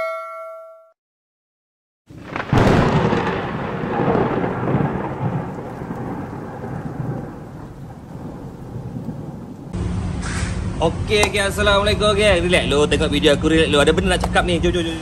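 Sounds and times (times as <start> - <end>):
thunderclap rumbling: 2.1 - 14.3
steady hiss of rain: 2.1 - 14.8.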